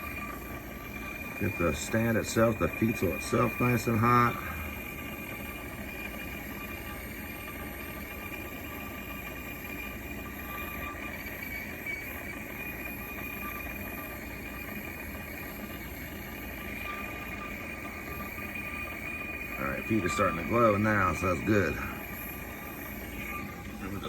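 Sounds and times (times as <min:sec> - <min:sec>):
gas torch hissing: 0:00.0 - 0:08.1, 0:08.7 - 0:24.0.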